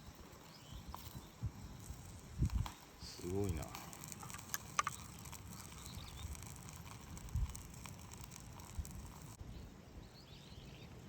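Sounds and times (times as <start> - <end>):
crinkling and rustling: 0.0 - 9.4.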